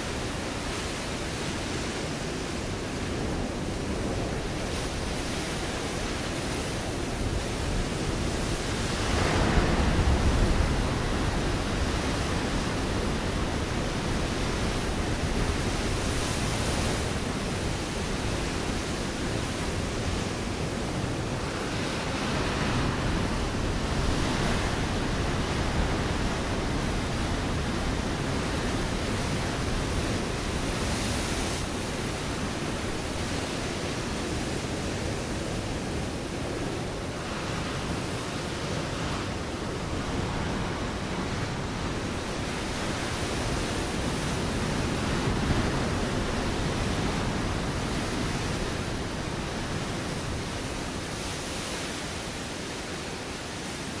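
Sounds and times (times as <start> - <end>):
ocean waves breaking on rocks: 0.0 - 54.0.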